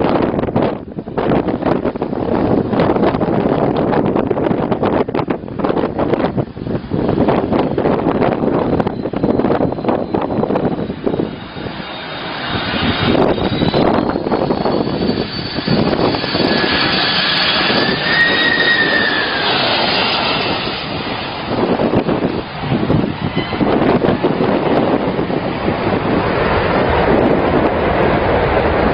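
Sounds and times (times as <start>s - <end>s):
airliner jet engines: 0.0s - 28.9s
high jet whine: 0.0s - 28.9s.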